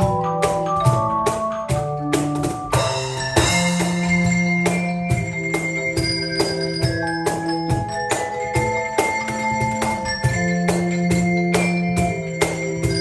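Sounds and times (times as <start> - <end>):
handbell ensemble playing melody: 0.0 - 13.0
percussion hits: 0.0 - 13.0.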